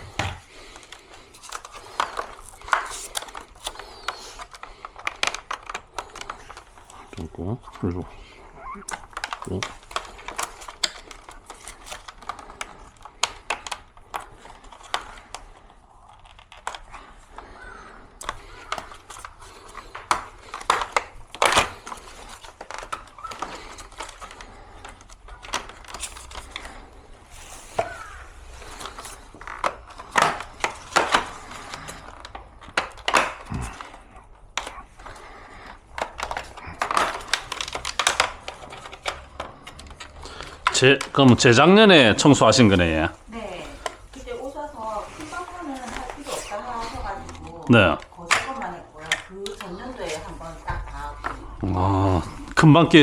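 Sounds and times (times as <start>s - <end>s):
plastic parts clicking and rattling: 0.0s - 53.0s
rustling: 0.0s - 53.0s.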